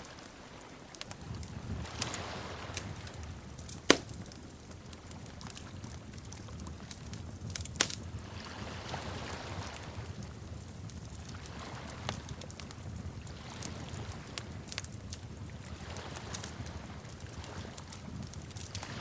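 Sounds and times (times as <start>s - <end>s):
sharp pops from fire: 0.0s - 8.6s, 9.2s - 19.0s
wood fire crackling: 0.0s - 19.0s.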